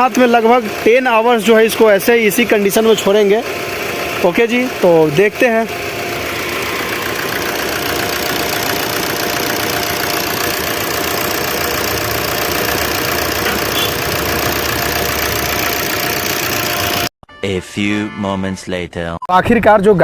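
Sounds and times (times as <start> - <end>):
diesel engine idling: 0.0 - 17.1
electric radiator fan running: 0.0 - 17.1.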